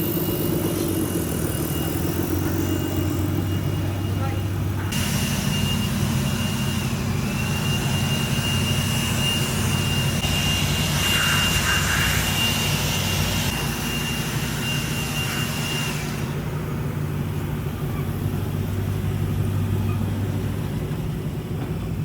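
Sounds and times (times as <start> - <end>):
high whine: 0.0 - 20.0
car engine exhaust drone: 0.0 - 22.0.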